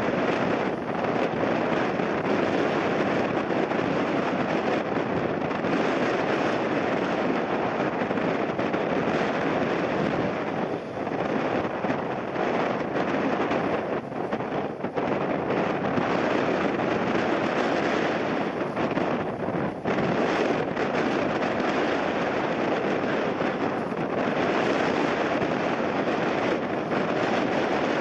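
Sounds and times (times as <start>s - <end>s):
jet engines: 0.0s - 28.0s
wind gusting on microphone: 0.0s - 28.0s.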